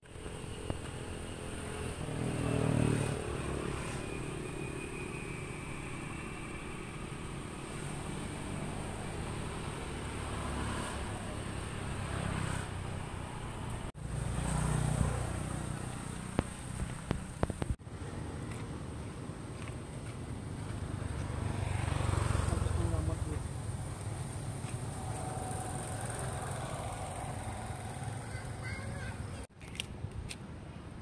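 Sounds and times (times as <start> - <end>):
passing traffic engine rumble: 0.1 - 29.5.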